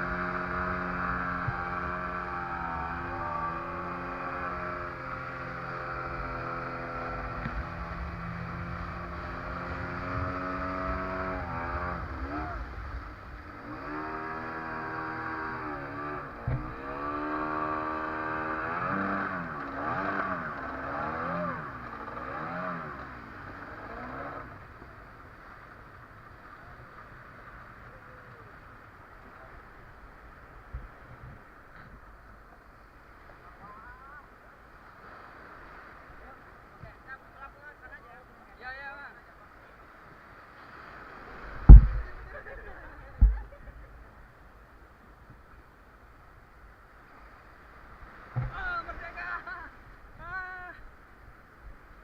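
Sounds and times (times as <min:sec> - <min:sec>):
boat motor running: 0:00.0 - 0:40.1, 0:41.1 - 0:52.0.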